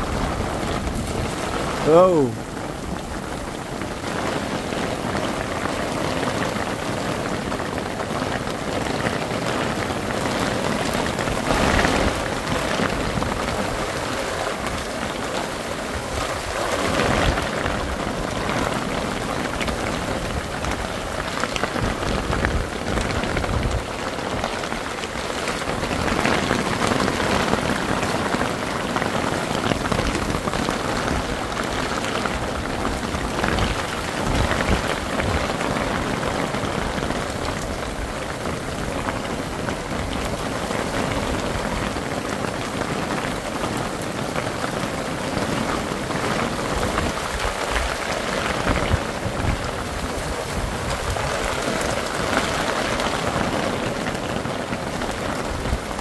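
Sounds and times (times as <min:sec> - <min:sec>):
heavy rain on a tarp: 0:00.0 - 0:56.0.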